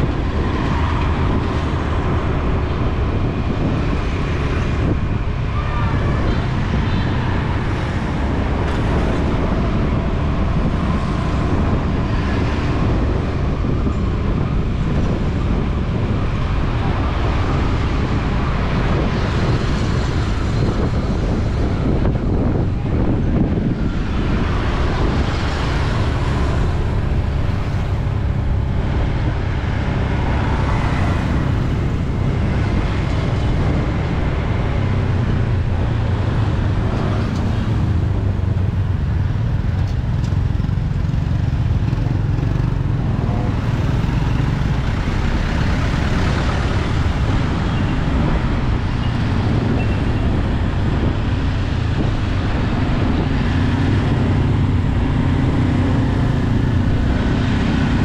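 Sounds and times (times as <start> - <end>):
road noise with low rumble: 0.0 - 58.0
vehicle engines: 0.0 - 58.0.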